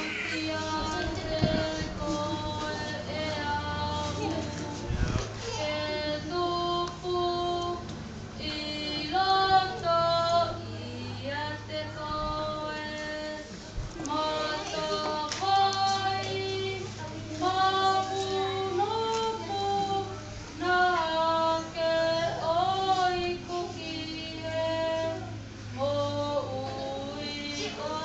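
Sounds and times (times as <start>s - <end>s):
child singing: 0.0s - 28.0s.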